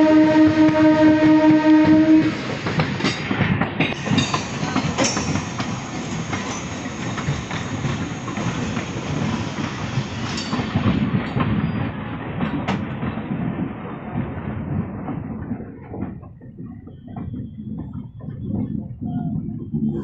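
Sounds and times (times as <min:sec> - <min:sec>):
train on next track: 0:00.0 - 0:20.0
train wheel rumble: 0:00.0 - 0:20.0.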